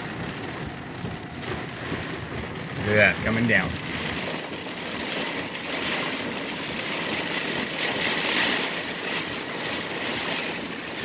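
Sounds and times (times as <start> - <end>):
heavy rain on vehicle roof: 0.0 - 11.0.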